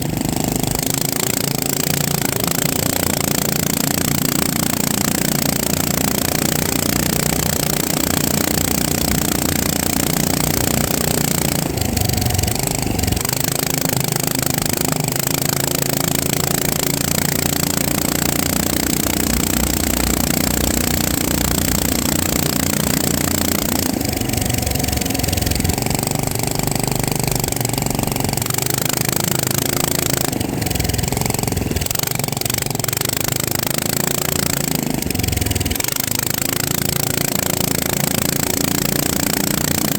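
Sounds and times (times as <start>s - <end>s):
drone motors buzzing: 0.0s - 39.9s.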